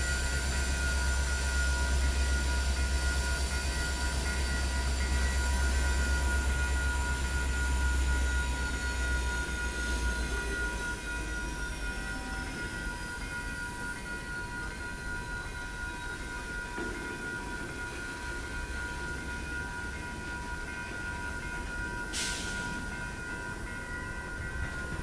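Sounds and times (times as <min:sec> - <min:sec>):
steady high-pitched tones: 0:00.0 - 0:25.0
train cars rolling on rails: 0:00.0 - 0:25.0.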